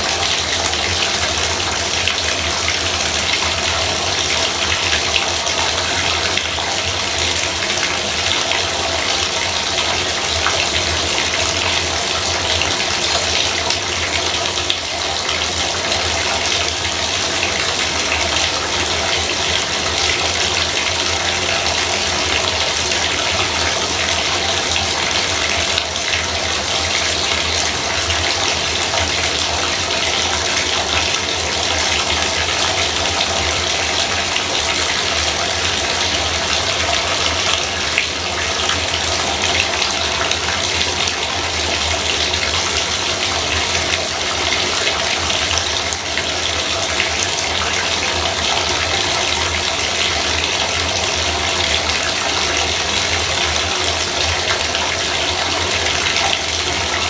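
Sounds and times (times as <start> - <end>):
water pouring into bathtub: 0.0 - 57.0.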